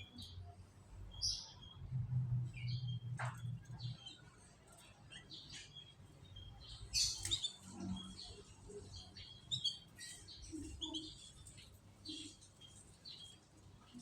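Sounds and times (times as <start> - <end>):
canaries chirping: 0.0 - 14.0.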